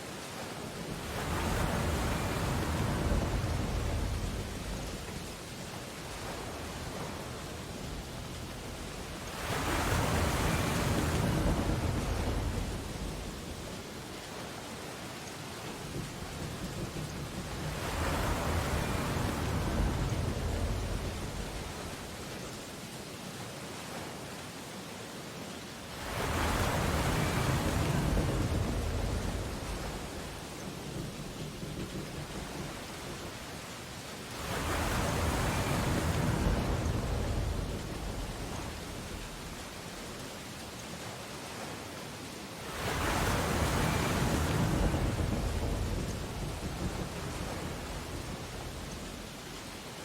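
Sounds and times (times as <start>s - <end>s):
hiss of surf: 0.0s - 50.0s
ocean waves breaking on beach: 0.0s - 50.0s.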